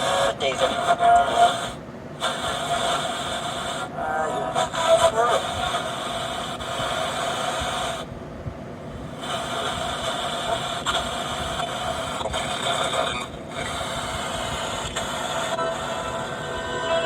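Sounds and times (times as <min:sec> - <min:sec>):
radio static hiss: 0:00.0 - 0:08.1, 0:08.9 - 0:17.0.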